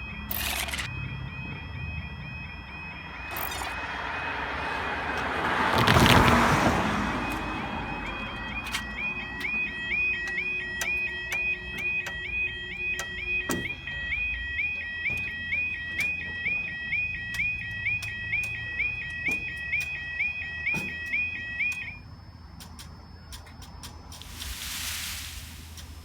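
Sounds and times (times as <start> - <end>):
level crossing alarm two-tone yelp: 0.0 - 22.2.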